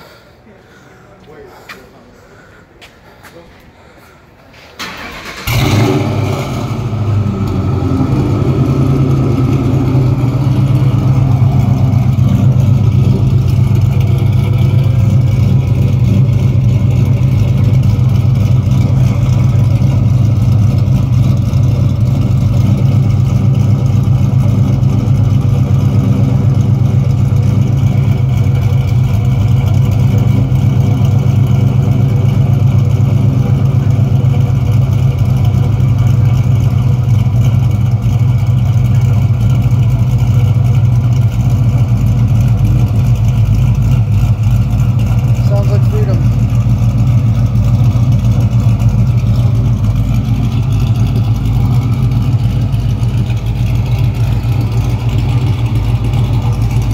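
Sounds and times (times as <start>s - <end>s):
car engine starting and idling: 4.5s - 56.9s.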